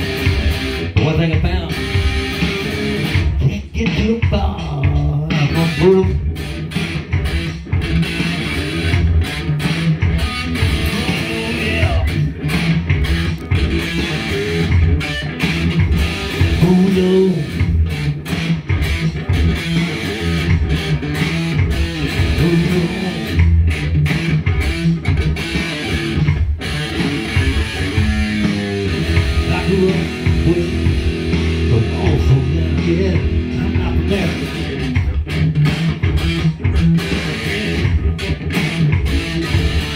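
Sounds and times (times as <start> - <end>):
electric guitar riff: 0.0 - 39.9.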